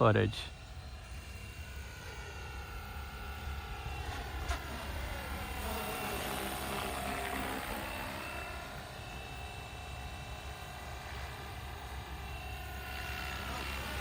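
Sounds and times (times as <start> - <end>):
rc helicopter motor and rotors whining: 0.0 - 14.0.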